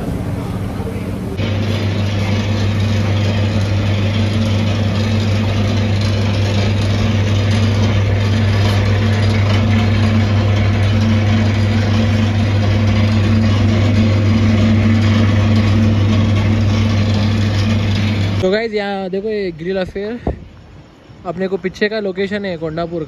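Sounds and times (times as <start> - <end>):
low hum: 0.0 - 18.7.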